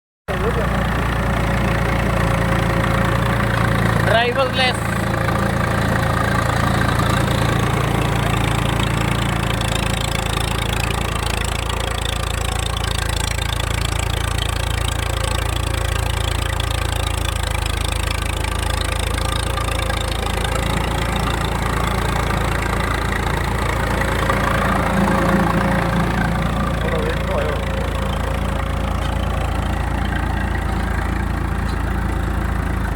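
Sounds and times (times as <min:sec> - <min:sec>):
tractor diesel engine running: 0:00.3 - 0:32.9.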